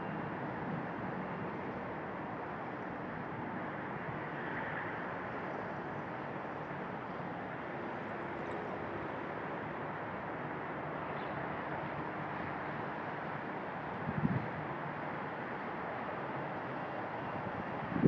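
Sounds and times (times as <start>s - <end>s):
rushing airport background noise: 0.0s - 18.0s.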